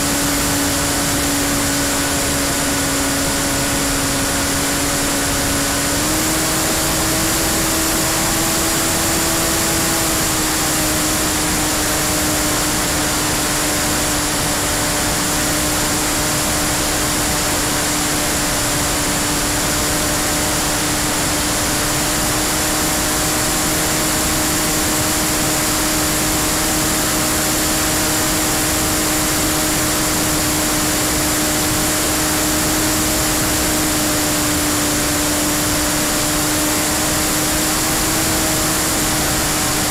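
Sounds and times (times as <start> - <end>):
droning propeller hum: 0.0 - 39.9.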